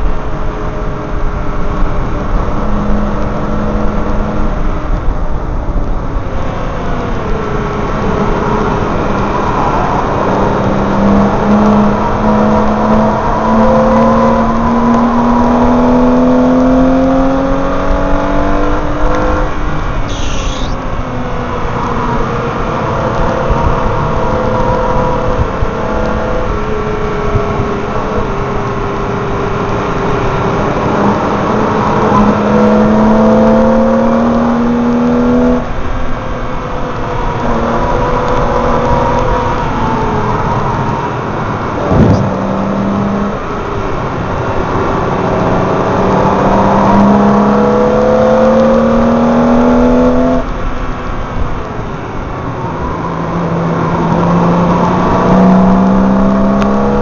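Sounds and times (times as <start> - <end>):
wind noise: 0.0 - 57.0
car engine revving through gears: 6.4 - 51.6, 52.3 - 57.0.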